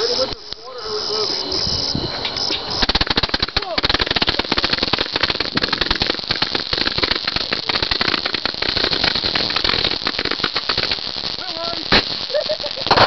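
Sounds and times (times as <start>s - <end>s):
fireworks popping and cracking: 1.6s - 13.0s.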